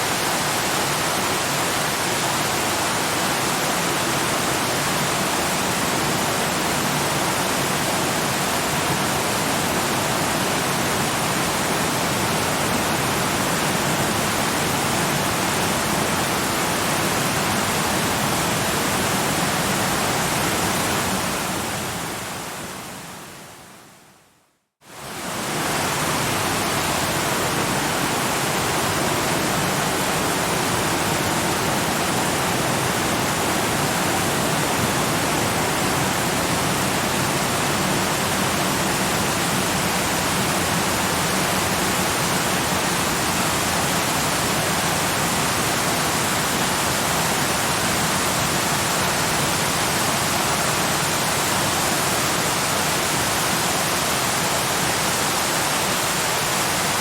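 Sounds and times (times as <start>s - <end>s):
waterfall rushing: 0.0s - 23.4s, 24.9s - 57.0s.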